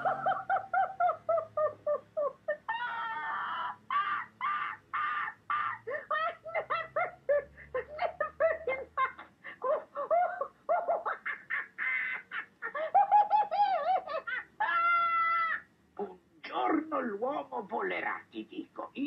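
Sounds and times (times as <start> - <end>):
cartoon owl laughing: 0.0 - 15.7.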